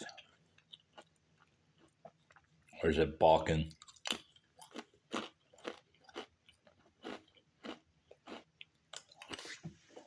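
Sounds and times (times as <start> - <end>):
person chewing crackers: 0.0 - 2.8, 3.7 - 10.0.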